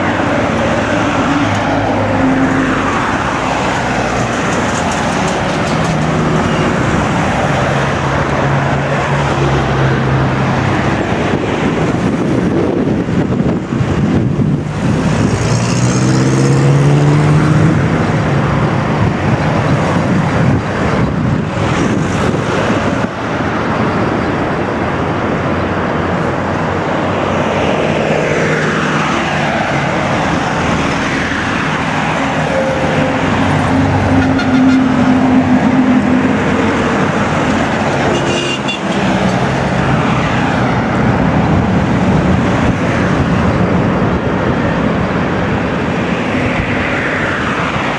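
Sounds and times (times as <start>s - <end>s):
highway traffic: 0.0s - 47.9s
vehicles passing by: 0.0s - 47.9s.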